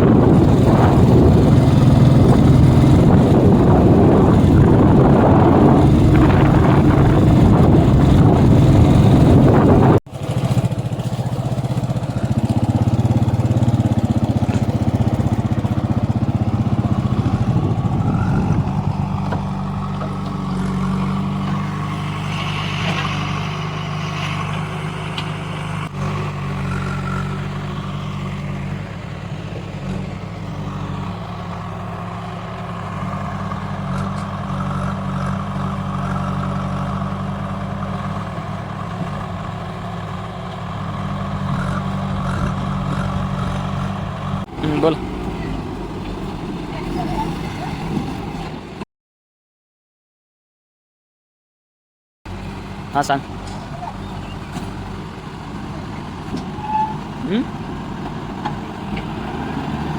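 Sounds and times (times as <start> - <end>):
heavy diesel engine running: 0.0 - 48.8, 52.3 - 59.9.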